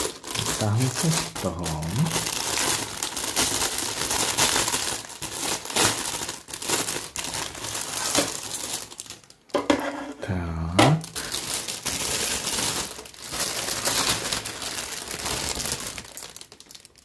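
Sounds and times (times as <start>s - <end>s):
plastic bag crinkling: 0.0s - 9.6s, 11.0s - 17.0s.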